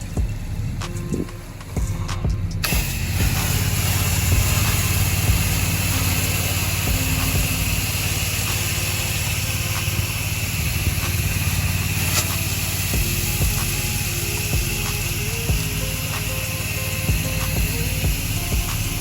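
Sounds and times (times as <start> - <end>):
small gasoline engine running: 0.0 - 19.0
water spraying hiss: 0.0 - 19.0.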